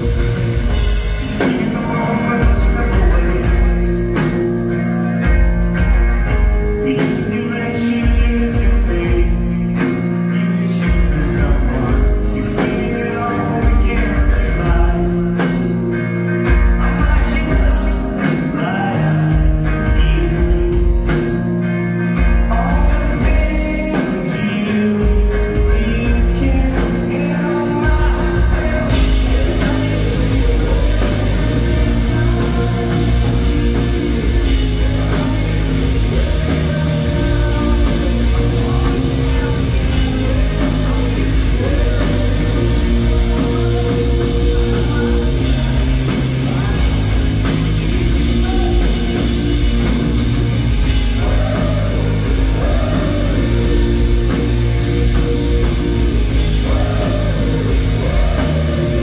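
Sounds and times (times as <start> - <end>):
live rock band playing: 0.0 - 59.0
person singing lead vocal: 0.0 - 59.0.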